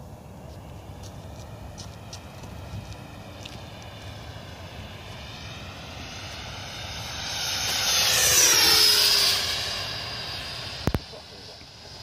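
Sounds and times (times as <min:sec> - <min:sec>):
model jet electric fan whining: 0:00.0 - 0:12.0.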